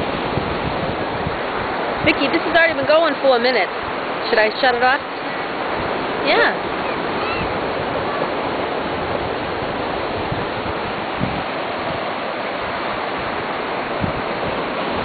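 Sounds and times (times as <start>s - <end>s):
surf rushing: 0.0s - 15.0s
wind: 0.0s - 15.0s.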